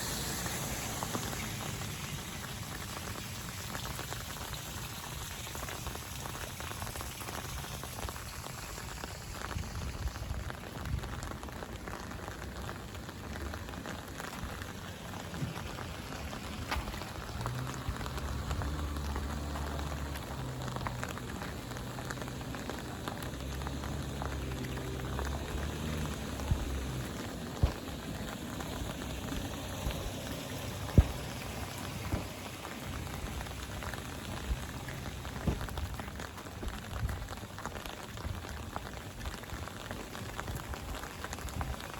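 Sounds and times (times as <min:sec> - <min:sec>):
rain falling: 0:00.0 - 0:41.9
water drips: 0:00.0 - 0:41.9.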